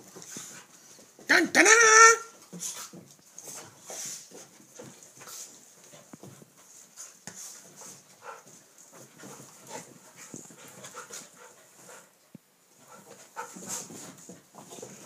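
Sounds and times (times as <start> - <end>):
dogs scuffling: 0.0 - 15.0
dogs panting: 2.4 - 15.0.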